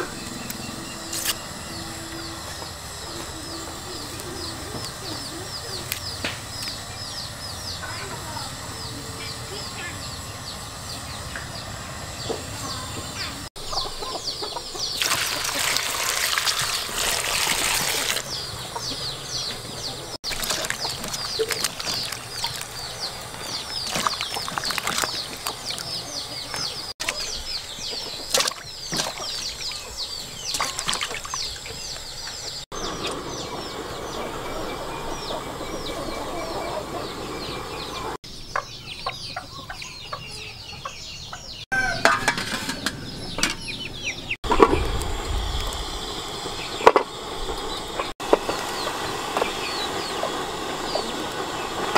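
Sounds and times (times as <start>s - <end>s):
chickens clucking and chirping: 0.0s - 16.0s, 18.2s - 51.9s.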